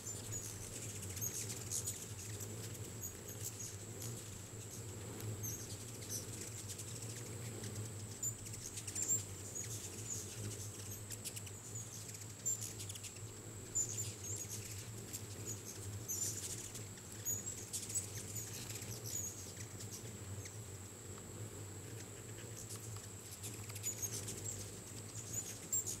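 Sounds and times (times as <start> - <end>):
hummingbird wings whirring: 0.0 - 26.0.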